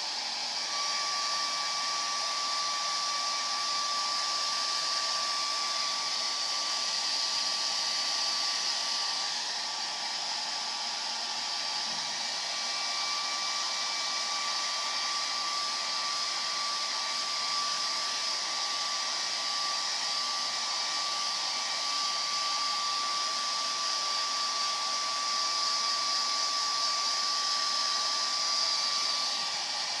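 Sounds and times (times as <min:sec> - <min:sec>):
hair dryer running: 0:00.0 - 0:30.0.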